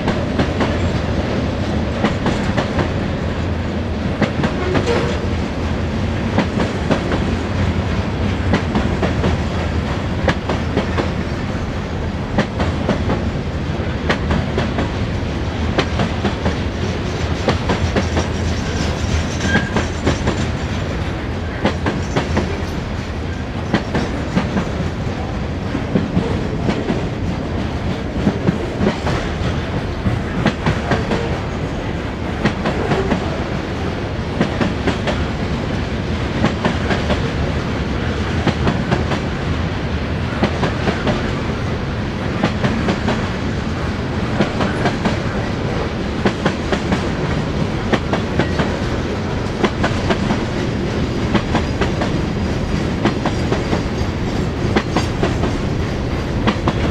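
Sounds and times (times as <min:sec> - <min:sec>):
freight train cars rolling: 0:00.0 - 0:56.9.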